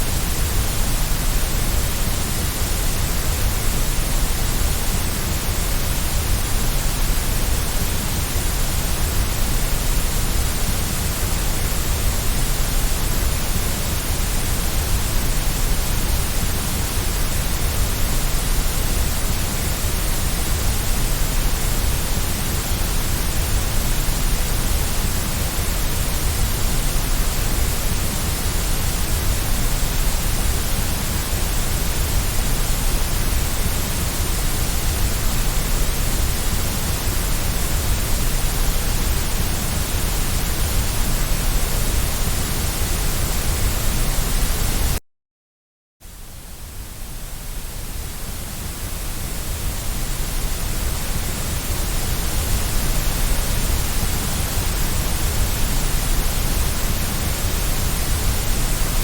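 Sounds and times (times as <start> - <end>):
white noise hiss: 0.0 - 45.0, 46.0 - 59.0.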